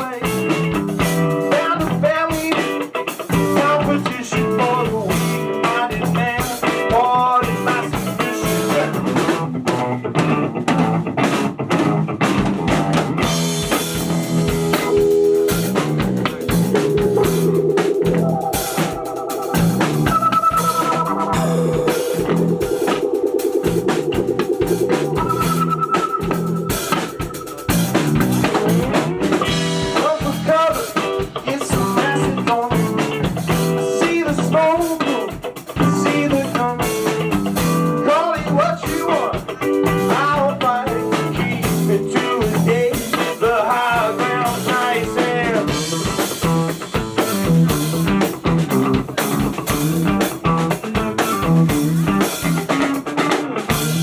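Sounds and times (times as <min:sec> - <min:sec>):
band playing instrumental: 0:00.0 - 0:54.0
bending lead guitar line: 0:00.0 - 0:54.0.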